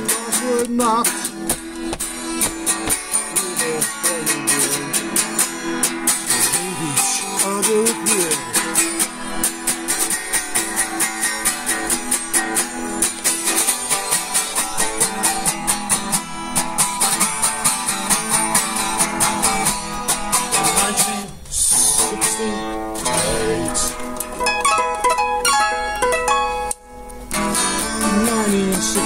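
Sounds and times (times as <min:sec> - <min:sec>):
bending guitar notes: 0:00.0 - 0:29.0
strummed guitar music: 0:00.0 - 0:29.0.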